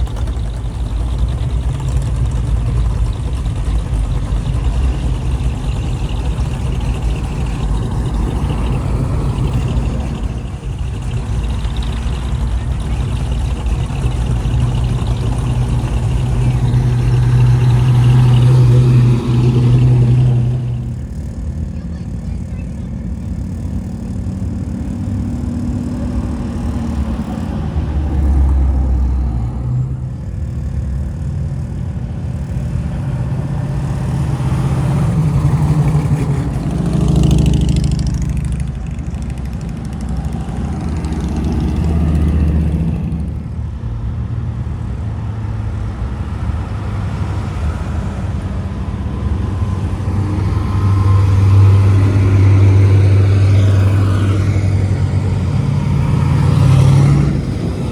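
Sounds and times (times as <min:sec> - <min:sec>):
classic cars driving past: 0:00.0 - 0:57.9.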